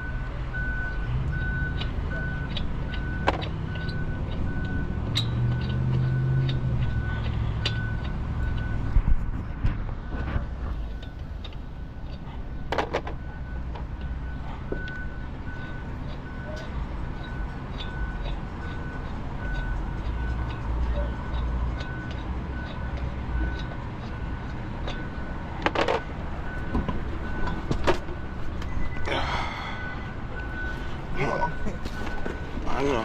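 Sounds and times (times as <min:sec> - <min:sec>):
low rumble of vehicles: 0:00.0 - 0:33.0.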